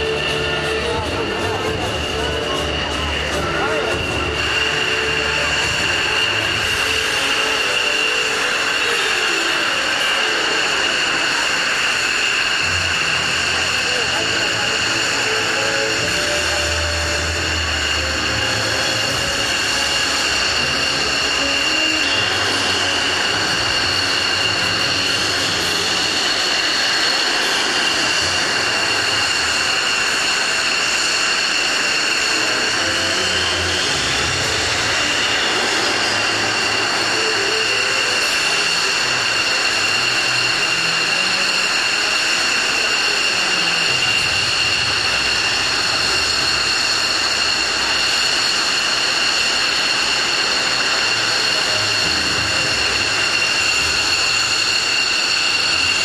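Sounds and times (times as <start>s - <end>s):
jet engine idling: 0.0s - 56.0s.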